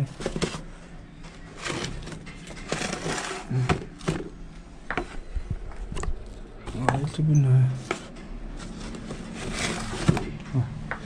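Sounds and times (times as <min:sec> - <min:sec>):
boxes scraping and rustling: 0:00.0 - 0:10.7.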